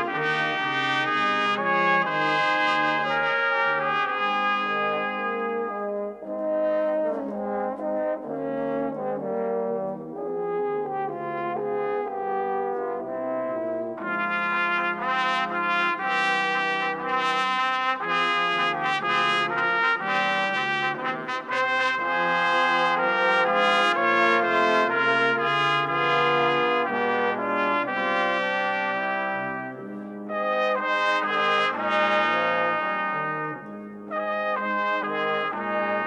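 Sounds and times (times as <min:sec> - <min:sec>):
brass band playing chords: 0:00.0 - 0:36.0.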